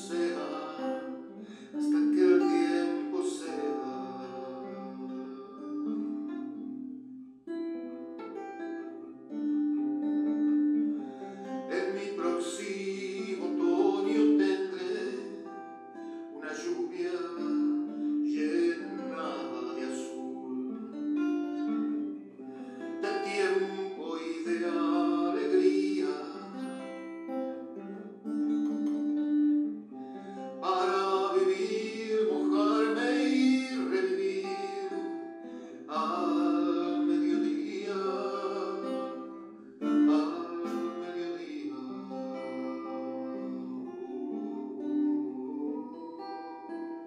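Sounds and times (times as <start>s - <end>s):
man singing: 0.0s - 7.0s, 10.4s - 27.9s, 29.9s - 46.5s
classical guitar chords: 0.0s - 47.0s.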